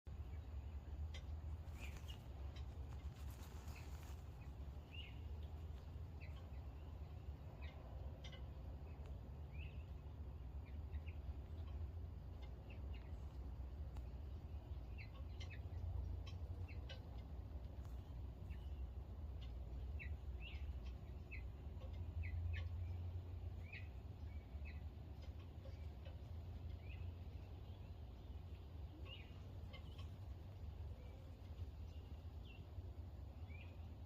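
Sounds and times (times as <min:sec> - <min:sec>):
small birds chirping: 0:00.1 - 0:34.0
steady low rumble: 0:00.1 - 0:34.0.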